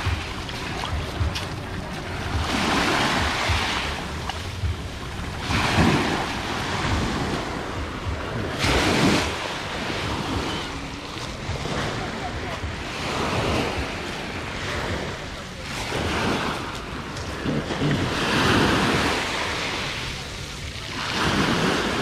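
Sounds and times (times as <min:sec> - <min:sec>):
waves washing up pebble shore: 0:00.0 - 0:22.0
wind rumble on microphone: 0:00.0 - 0:22.0.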